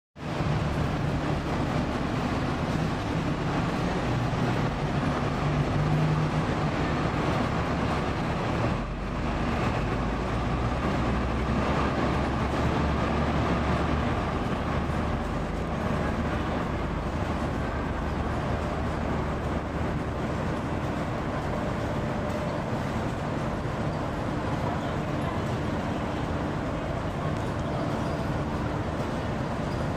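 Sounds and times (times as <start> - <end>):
bus diesel engine idling: 0.2 - 29.9.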